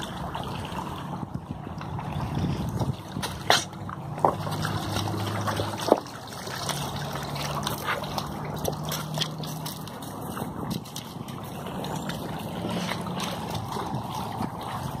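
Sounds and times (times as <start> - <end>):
river water trickling and splashing: 0.0 - 15.0.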